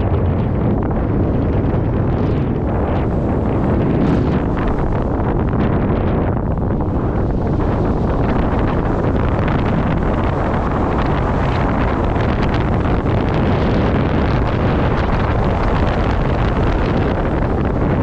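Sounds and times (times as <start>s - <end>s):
wind noise on microphone: 0.0s - 18.0s.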